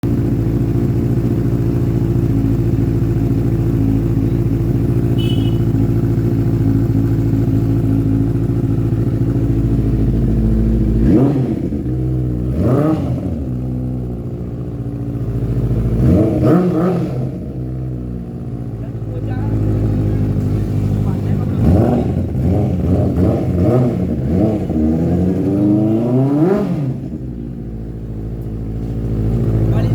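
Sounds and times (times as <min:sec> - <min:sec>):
motorcycle idling and revving: 0:00.0 - 0:29.9.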